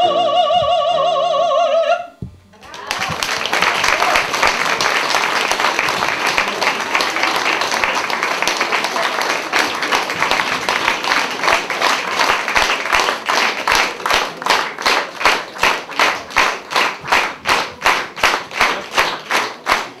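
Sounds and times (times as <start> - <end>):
audience applause: 2.6 - 20.0
rhythmic clapping in unison: 2.6 - 20.0.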